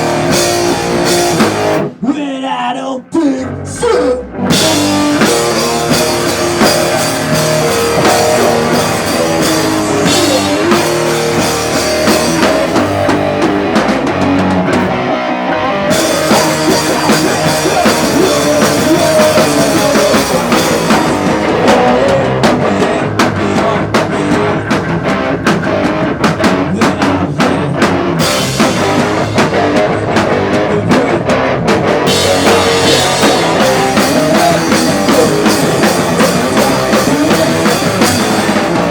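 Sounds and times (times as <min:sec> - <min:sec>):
live rock band playing: 0:00.0 - 0:02.0, 0:03.4 - 0:38.9.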